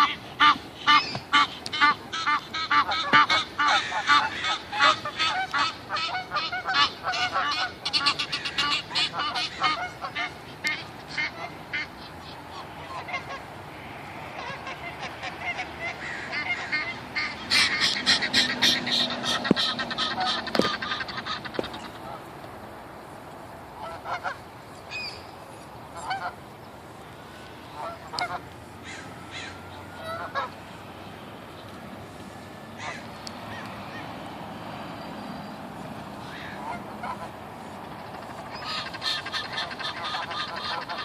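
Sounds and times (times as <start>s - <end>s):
geese honking: 0.0s - 22.3s, 23.8s - 25.2s, 25.9s - 26.5s, 27.3s - 34.2s, 35.1s - 41.0s.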